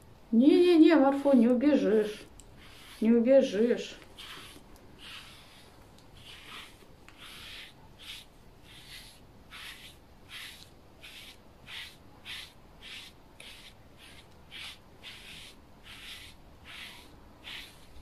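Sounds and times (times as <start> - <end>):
brush swishing through fur: 1.9 - 18.0.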